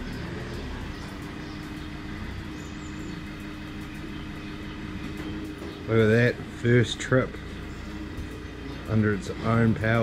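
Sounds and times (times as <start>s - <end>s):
machine motor running: 0.0s - 10.0s.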